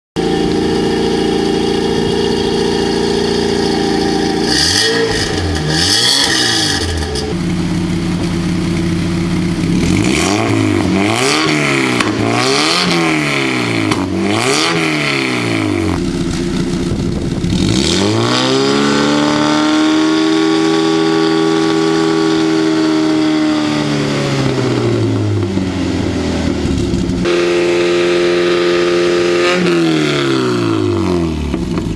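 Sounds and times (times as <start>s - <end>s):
car engine revving: 0.2s - 31.9s.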